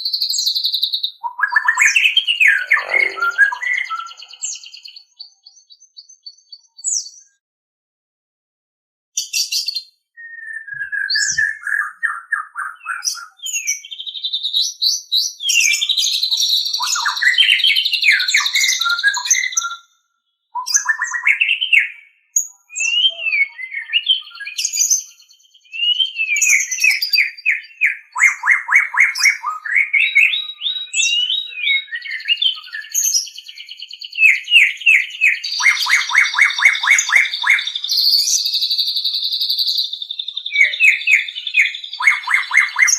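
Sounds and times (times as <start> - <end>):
songbird whistling and trilling: 0.0 - 7.4, 9.2 - 20.0, 20.6 - 42.9.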